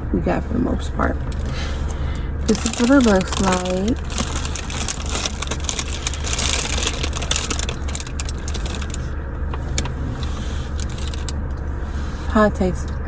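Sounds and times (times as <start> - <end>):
low rumble of car interior: 0.0 - 13.0
crackling and rustling handling noise: 1.1 - 12.3.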